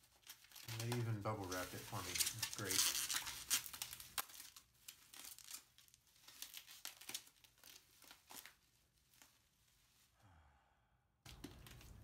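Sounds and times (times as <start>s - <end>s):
bubble wrap crinkling: 0.0s - 10.2s, 11.3s - 12.0s.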